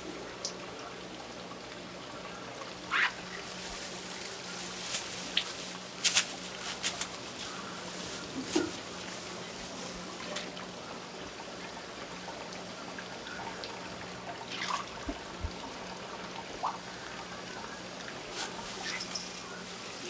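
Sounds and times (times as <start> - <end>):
faint steady hum: 0.0 - 20.0
water trickling and pouring: 0.0 - 20.0.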